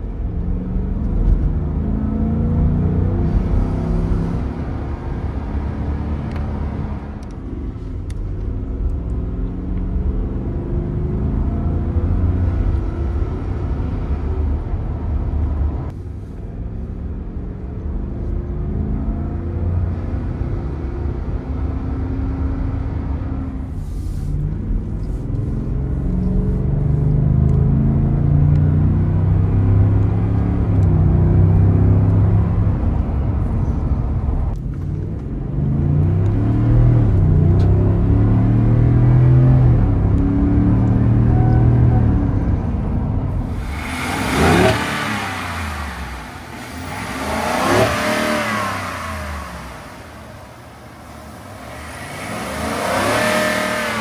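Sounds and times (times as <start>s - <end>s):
engine accelerating from inside car: 0.0s - 54.0s.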